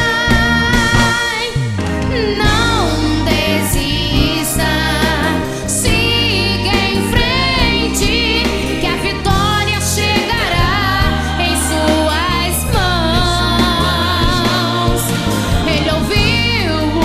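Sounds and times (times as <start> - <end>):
band with bass and drums: 0.0 - 17.0
sung vocals: 0.0 - 17.0.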